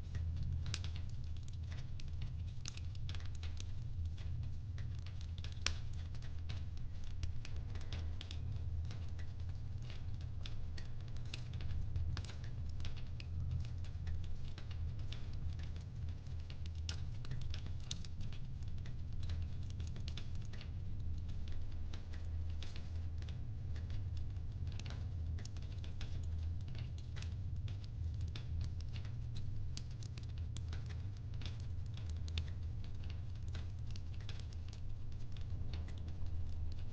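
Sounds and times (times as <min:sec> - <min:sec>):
low steady rumble: 0:00.0 - 0:36.9
wood fire crackling and popping: 0:00.0 - 0:36.9.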